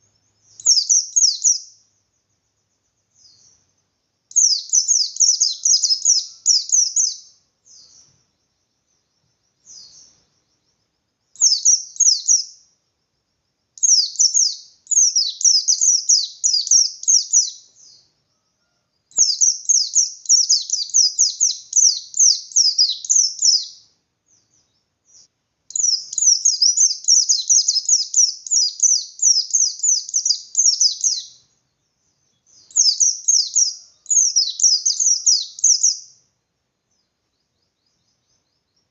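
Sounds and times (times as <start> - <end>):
bird chirping song: 0.0 - 38.9.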